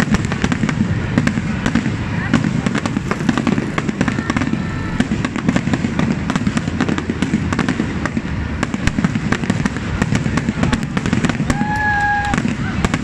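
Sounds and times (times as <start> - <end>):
fireworks bangs and crackling pops: 0.0 - 13.0.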